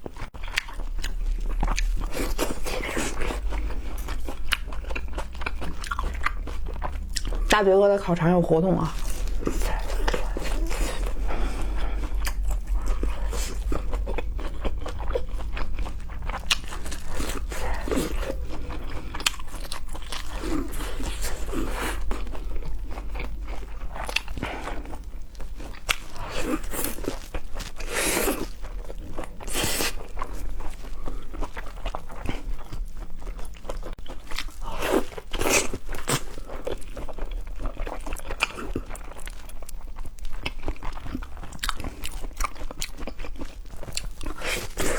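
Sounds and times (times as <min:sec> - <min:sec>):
crunchy bites and wet chewing: 0:00.1 - 0:07.6, 0:08.9 - 0:44.9.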